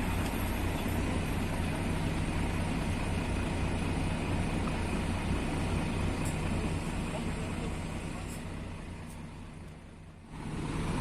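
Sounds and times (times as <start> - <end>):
two-stroke car engine running: 0.0 - 11.0.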